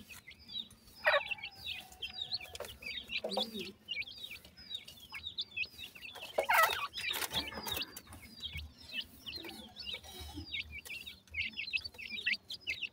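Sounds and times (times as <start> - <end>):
chicks peeping and chirping: 0.0 - 12.9.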